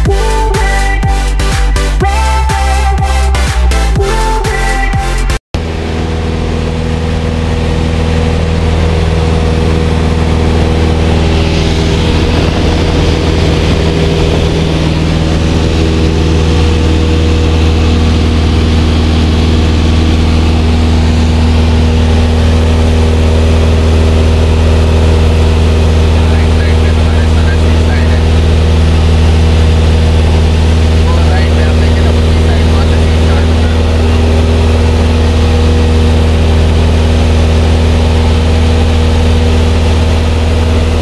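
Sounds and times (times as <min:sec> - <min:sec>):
propeller aircraft engine drone: 0:00.0 - 0:41.0.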